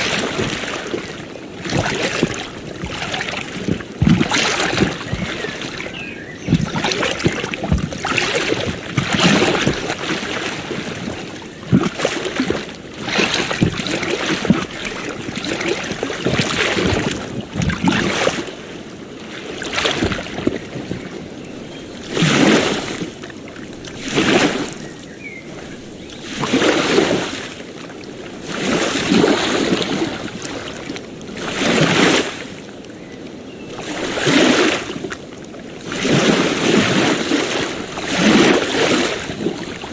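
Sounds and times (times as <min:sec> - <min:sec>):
small waves splashing on shore: 0:00.0 - 0:39.9.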